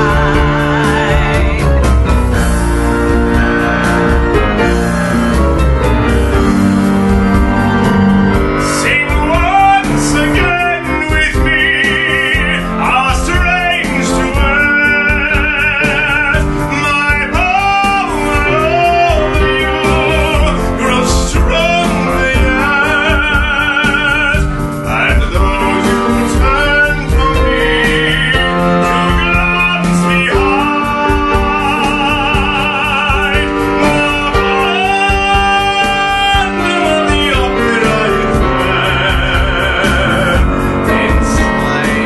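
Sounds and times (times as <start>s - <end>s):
grand piano: 0.0s - 42.0s.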